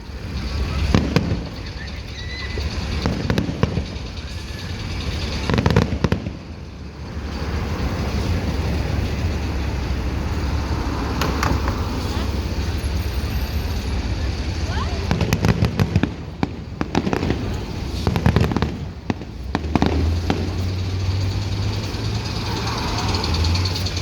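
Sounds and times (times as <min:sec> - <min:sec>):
fireworks booming: 0:00.0 - 0:24.0
fireworks crackle: 0:00.0 - 0:24.0.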